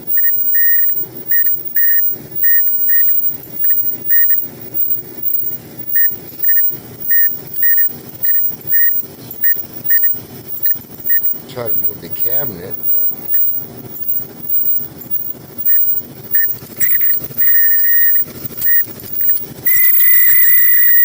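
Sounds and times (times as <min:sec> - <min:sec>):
dryer drum squealing: 0:00.0 - 0:21.0.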